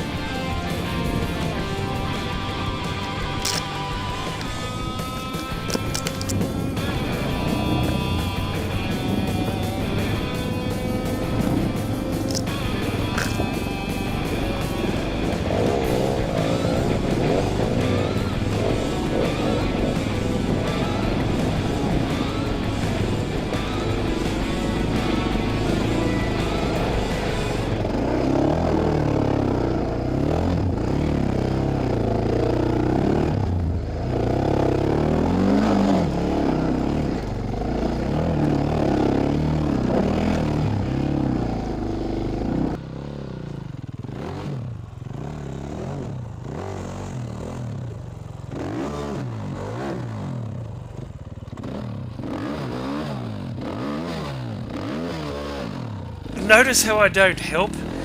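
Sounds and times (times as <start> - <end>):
dirt bike engine revving: 0.0 - 50.7, 51.5 - 56.6, 57.8 - 58.0.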